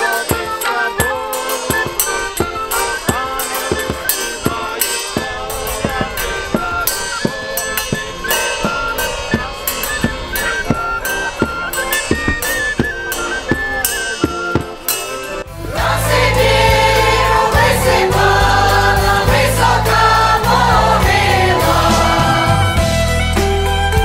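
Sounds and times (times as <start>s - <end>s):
accordion melody: 0.0s - 24.0s
large drum beat: 0.0s - 24.0s.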